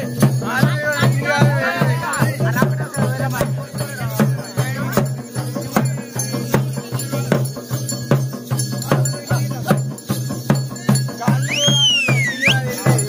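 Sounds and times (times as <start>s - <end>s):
barrel drums beaten in folk rhythm: 0.0s - 13.0s.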